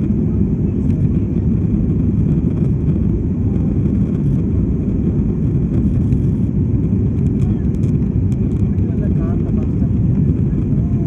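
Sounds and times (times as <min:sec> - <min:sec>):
aeroplane engines rumbling: 0:00.0 - 0:11.0.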